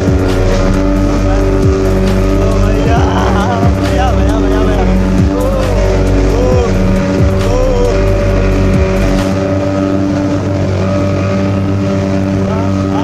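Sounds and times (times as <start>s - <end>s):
background music: 0.0s - 13.0s
speedboat engine running: 0.0s - 13.0s.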